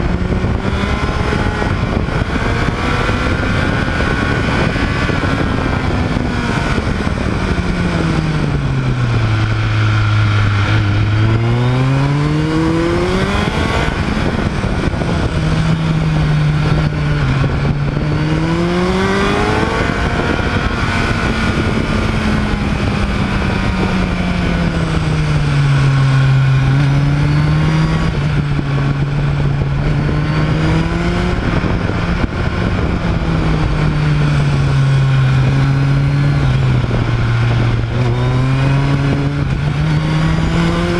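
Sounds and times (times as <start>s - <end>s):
vehicle engine revving: 0.0s - 40.9s
wind rush: 0.0s - 40.9s.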